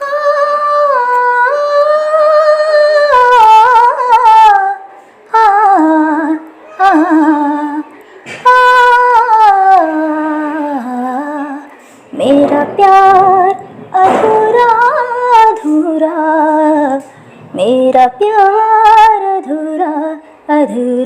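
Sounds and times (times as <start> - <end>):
woman singing wordless vocals: 0.0 - 21.0.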